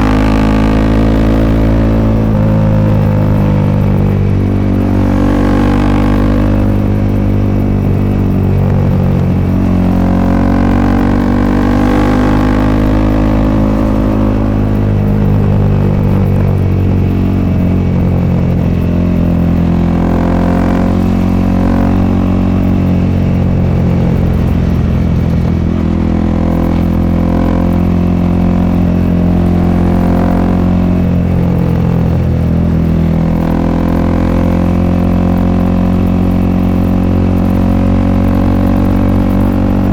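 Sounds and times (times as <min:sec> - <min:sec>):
motorcycle exhaust revving: 0:00.0 - 0:39.9.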